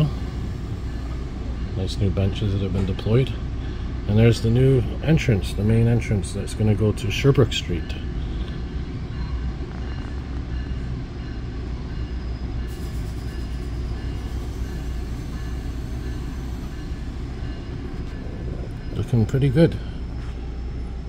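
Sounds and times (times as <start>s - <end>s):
low rumble inside train coach: 0.0s - 21.0s.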